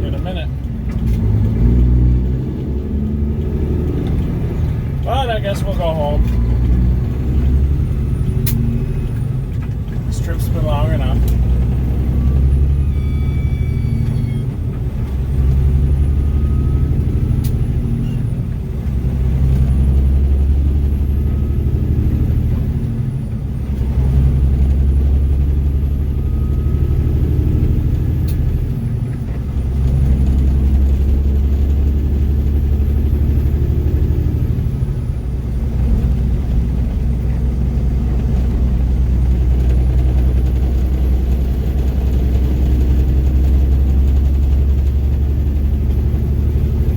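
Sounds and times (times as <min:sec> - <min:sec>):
diesel truck engine shifting gears: 0:00.0 - 0:46.9.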